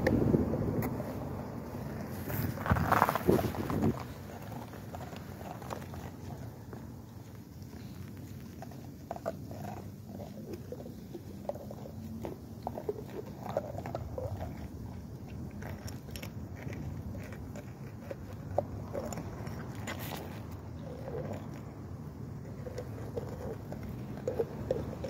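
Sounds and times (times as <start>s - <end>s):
dog chewing ice and snow: 1.7s - 25.0s.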